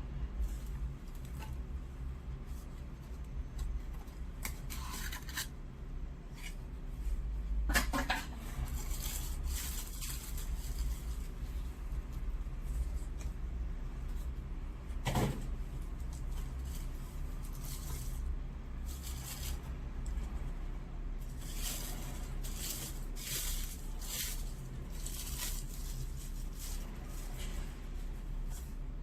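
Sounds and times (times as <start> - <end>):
steady low hum: 0.0 - 29.0
packaging rustling and scraping: 0.4 - 5.6, 6.2 - 13.2, 15.3 - 20.4, 21.2 - 29.0.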